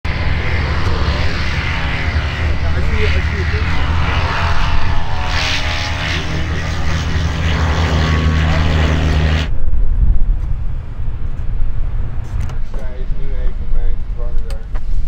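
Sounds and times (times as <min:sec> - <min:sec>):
propeller aircraft engine running: 0:00.0 - 0:15.0
uneven low rumble: 0:00.0 - 0:15.0.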